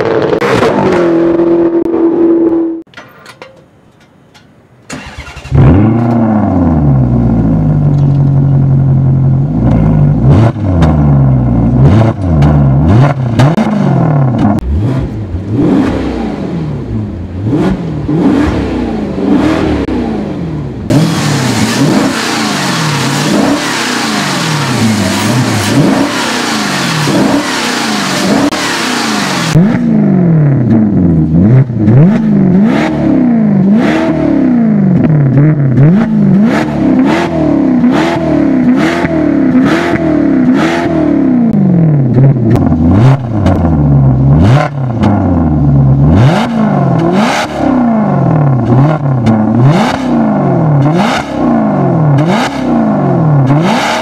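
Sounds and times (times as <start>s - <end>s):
car engine starting and idling: 3.7s - 54.0s
car engine revving: 4.9s - 54.0s.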